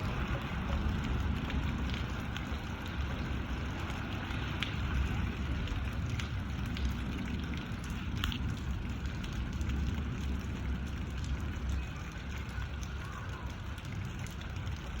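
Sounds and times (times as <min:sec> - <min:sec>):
low rumble: 0:00.0 - 0:13.0
steady rain falling: 0:00.0 - 0:15.0.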